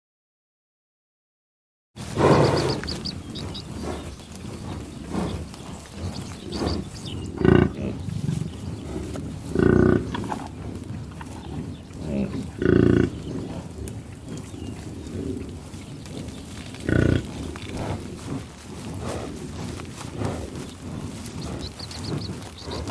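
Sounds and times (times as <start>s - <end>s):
bison grunting and growling: 2.0s - 22.9s
eating and sniffling noises: 2.0s - 22.9s.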